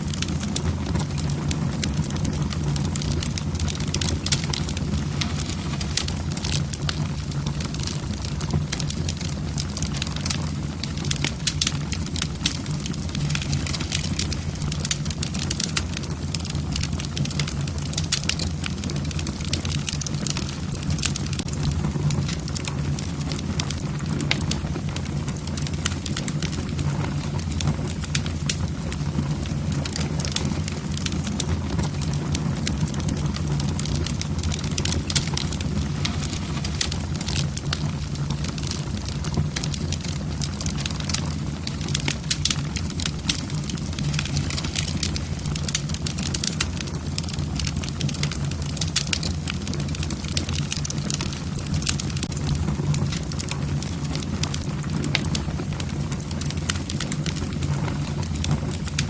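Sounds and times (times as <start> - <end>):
flames rushing: 0.0 - 59.0
logs crackling and popping: 0.0 - 59.0.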